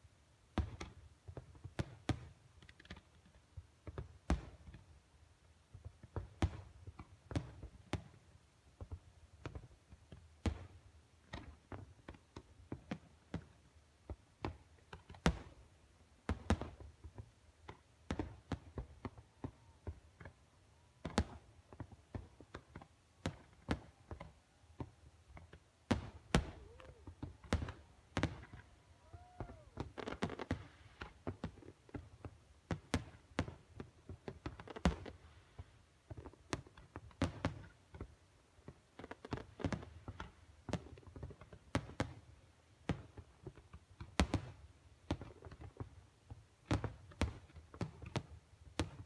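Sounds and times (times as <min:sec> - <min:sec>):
fireworks bangs and pops: 0:00.5 - 0:04.9, 0:05.7 - 0:49.0.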